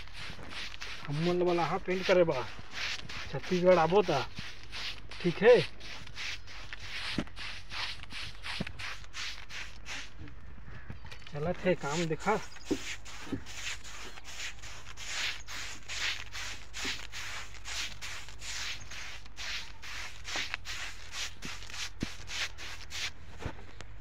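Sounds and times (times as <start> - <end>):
brush swishing on wall: 0.0 - 10.2, 11.6 - 23.6.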